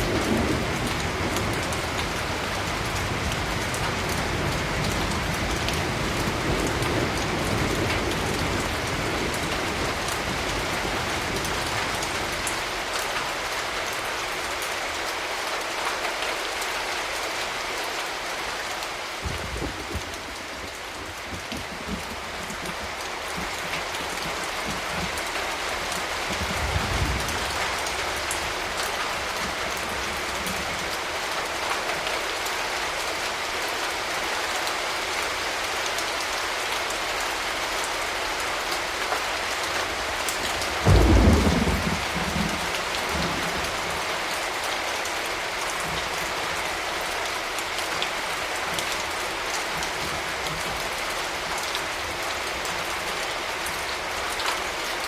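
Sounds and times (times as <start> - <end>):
rain pattering on surfaces: 0.0 - 55.0.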